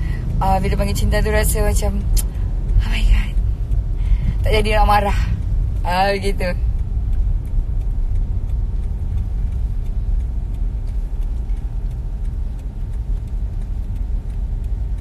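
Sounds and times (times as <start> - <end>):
car cabin road rumble: 0.0 - 15.0
faint ticking: 0.0 - 15.0.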